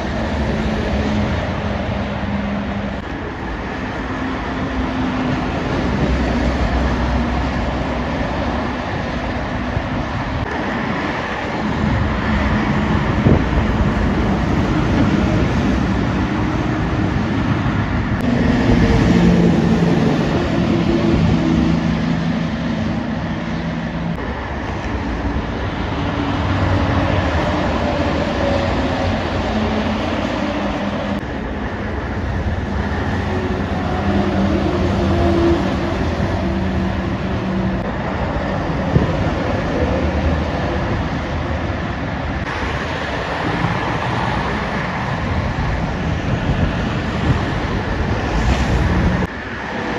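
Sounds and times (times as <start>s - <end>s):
traffic passing at speed: 0.0s - 49.9s
truck diesel engine: 0.0s - 49.9s.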